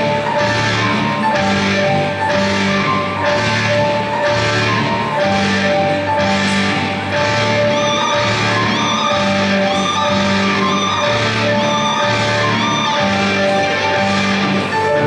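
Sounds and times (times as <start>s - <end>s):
music with repeating bass: 0.0s - 15.0s.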